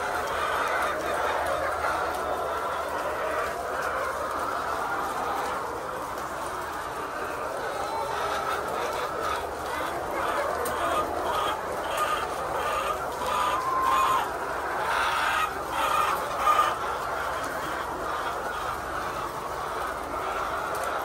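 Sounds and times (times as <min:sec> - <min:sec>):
hens clucking and calling: 0:00.0 - 0:21.0.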